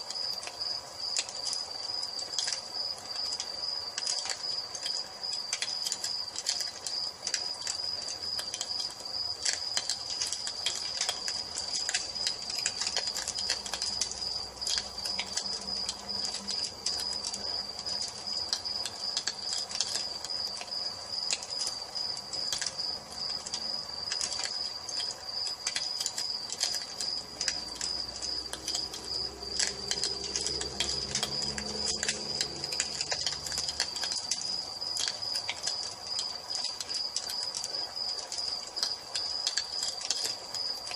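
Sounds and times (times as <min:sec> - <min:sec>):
crickets chirping: 0:00.0 - 0:40.9
wood fire crackling: 0:00.0 - 0:40.9.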